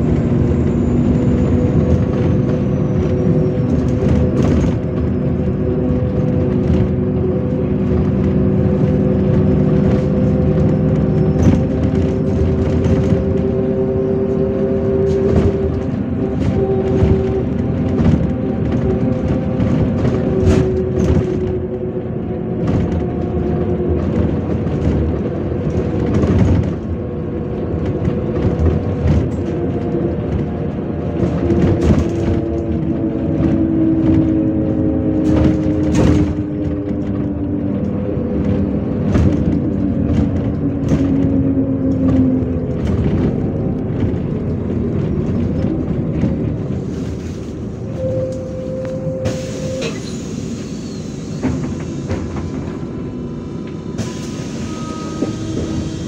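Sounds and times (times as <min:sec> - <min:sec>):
bus body rattling: 0:00.0 - 0:56.0
bus engine running: 0:00.0 - 0:56.0.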